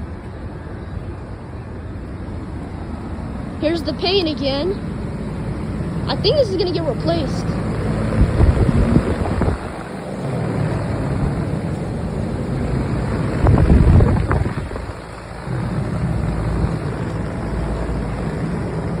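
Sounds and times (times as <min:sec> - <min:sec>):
air conditioner fan rush: 0:00.0 - 0:19.0
wind buffeting microphone: 0:00.0 - 0:19.0.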